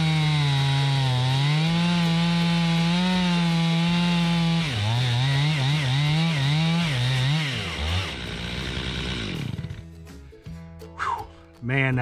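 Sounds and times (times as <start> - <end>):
chainsaw ripping log: 0.0 - 9.9.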